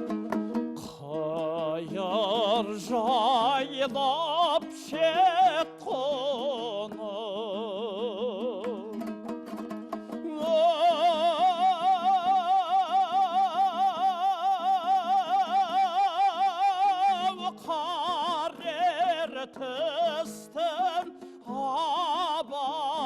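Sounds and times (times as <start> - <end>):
plucked string accompaniment: 0.0 - 23.0
person singing with vibrato: 0.7 - 23.0.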